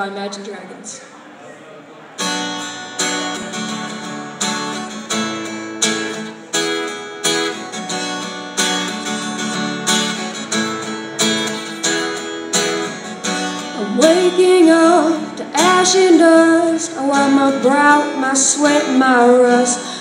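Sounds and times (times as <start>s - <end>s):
guitar strummed: 2.2s - 20.0s.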